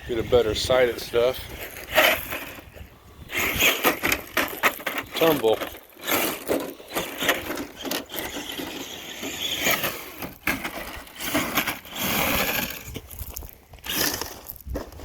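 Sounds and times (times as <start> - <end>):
tyres crunching over dirt: 0.2 - 15.0.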